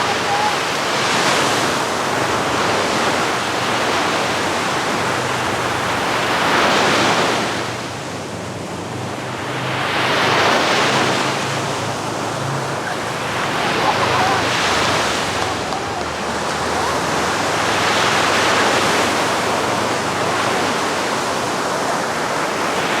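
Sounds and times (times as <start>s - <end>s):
sea waves breaking on beach: 0.0s - 23.0s.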